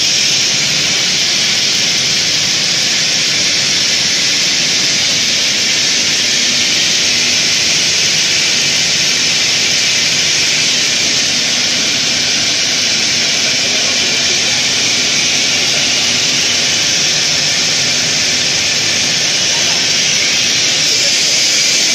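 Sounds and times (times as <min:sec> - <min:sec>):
machine rushing whir: 0:00.0 - 0:21.9.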